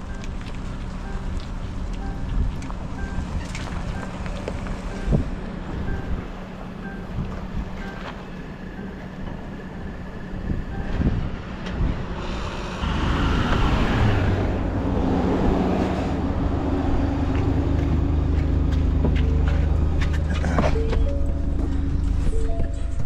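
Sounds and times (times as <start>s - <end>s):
engine running: 0.0s - 23.0s
steady low drone: 0.0s - 23.0s.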